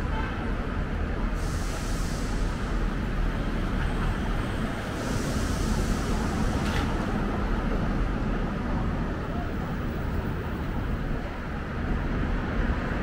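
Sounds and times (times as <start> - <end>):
traffic hiss: 0.3 - 13.0.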